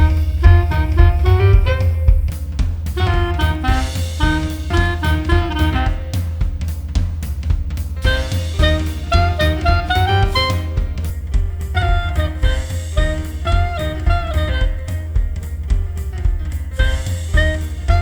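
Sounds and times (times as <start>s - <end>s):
drum kit: 0.0s - 18.0s
walking bass: 0.0s - 18.0s.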